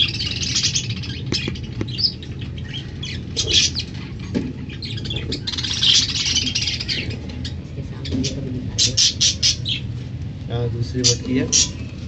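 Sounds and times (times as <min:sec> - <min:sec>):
budgerigars squawking and chattering: 0:00.0 - 0:09.9, 0:10.5 - 0:12.0.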